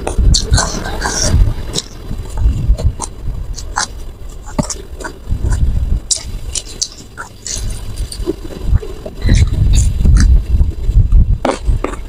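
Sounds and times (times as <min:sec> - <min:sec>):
dull low thumps: 0:00.0 - 0:12.0
wet chewing and lip-smacking: 0:00.1 - 0:10.4.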